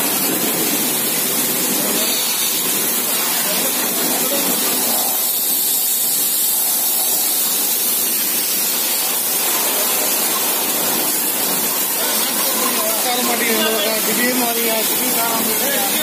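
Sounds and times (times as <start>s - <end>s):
water jet spraying on metal: 0.0s - 16.0s.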